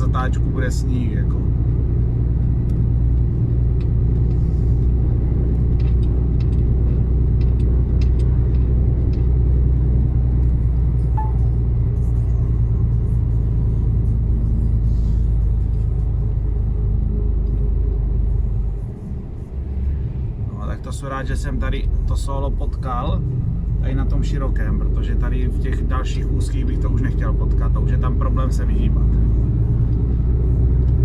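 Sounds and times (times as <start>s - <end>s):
truck engine drone: 0.0s - 31.0s.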